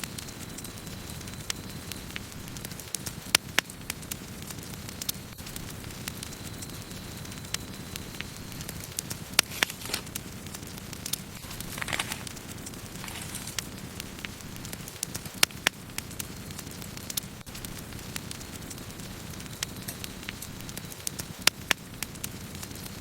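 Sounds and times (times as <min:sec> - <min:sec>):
burning wood crackling and popping: 0:00.0 - 0:23.0
campfire flames rushing: 0:00.0 - 0:23.0.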